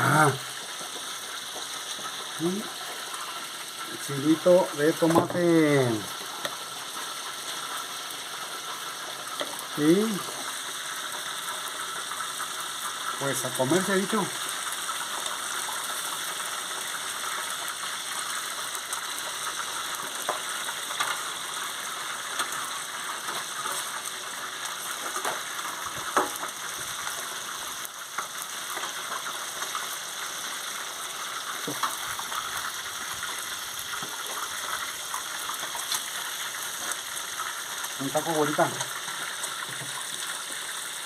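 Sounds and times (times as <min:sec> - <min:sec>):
fish sizzling in hot oil: 0:00.0 - 0:41.0.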